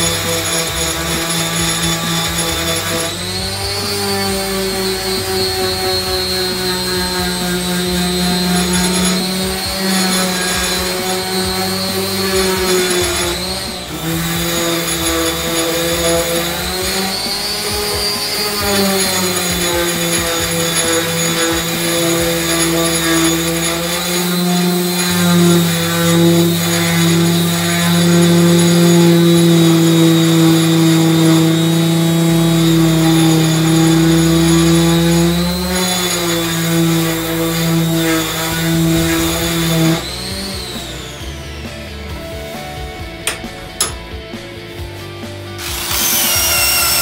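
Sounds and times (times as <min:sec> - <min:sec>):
electric sander on wood: 0:00.0 - 0:47.0.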